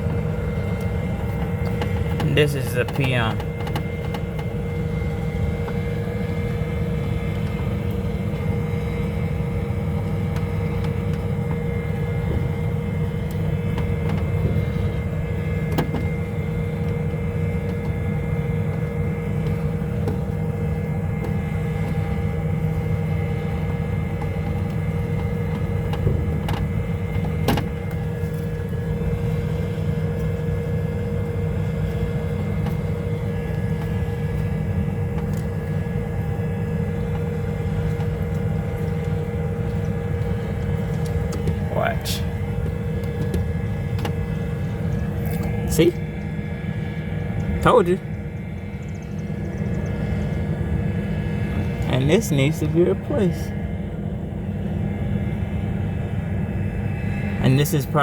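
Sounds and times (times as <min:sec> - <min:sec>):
hvac mechanical hum: 0:00.0 - 0:58.0.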